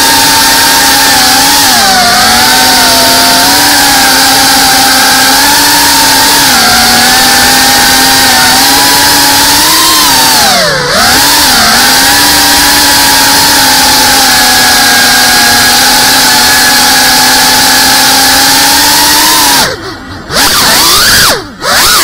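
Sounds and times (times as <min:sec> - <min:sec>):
drone propellers buzzing: 0:00.0 - 0:22.0.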